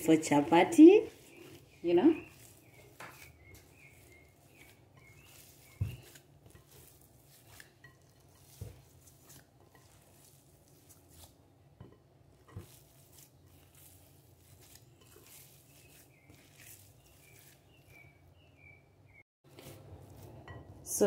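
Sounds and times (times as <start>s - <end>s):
hands squeezing dough: 0.0s - 21.0s.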